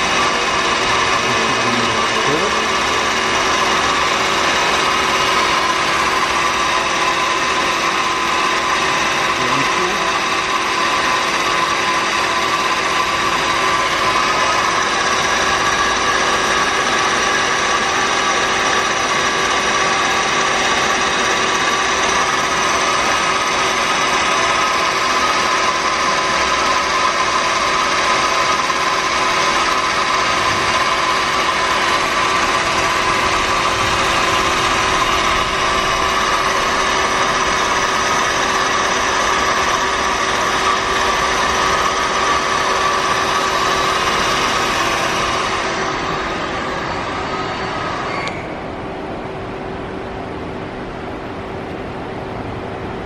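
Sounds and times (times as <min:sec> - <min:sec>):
lathe mechanical whine: 0:00.0 - 0:53.0.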